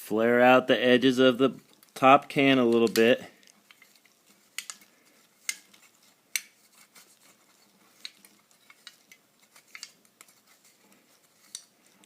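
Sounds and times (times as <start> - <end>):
metallic clicks and crinkles: 1.4 - 12.0.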